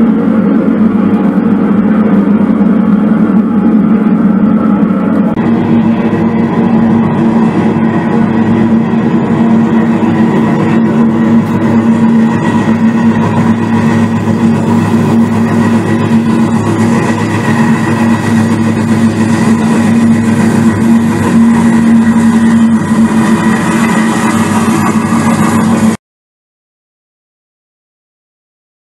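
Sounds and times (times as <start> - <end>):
model train engine drone: 0.0 - 26.0
train cars rolling on track: 0.0 - 26.0.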